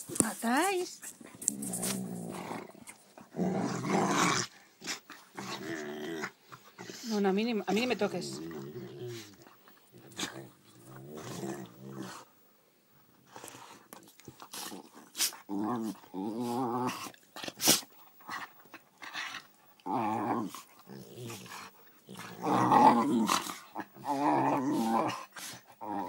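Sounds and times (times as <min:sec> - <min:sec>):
dogs growling: 0:01.0 - 0:12.4, 0:13.2 - 0:26.0.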